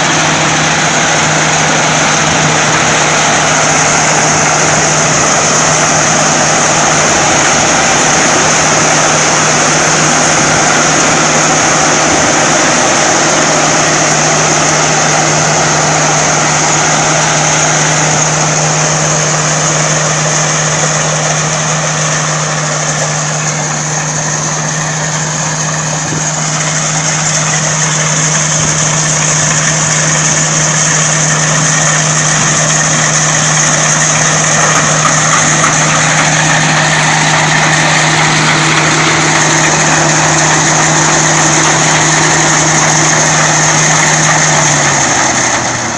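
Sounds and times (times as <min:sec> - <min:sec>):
harvester engine running: 0:00.0 - 0:45.9.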